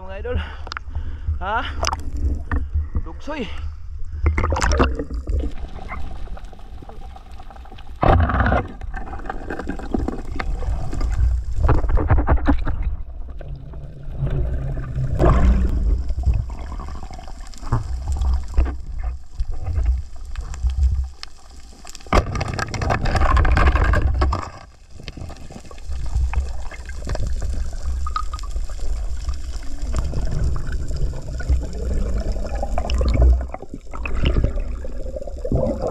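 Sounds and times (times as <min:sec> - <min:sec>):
low underwater rumble: 0:03.8 - 0:24.4, 0:25.2 - 0:35.9
water rushing and gurgling: 0:04.3 - 0:35.9.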